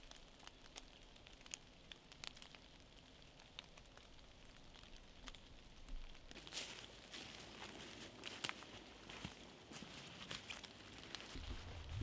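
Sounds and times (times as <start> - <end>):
water drops falling on leaves: 0.0 - 11.7.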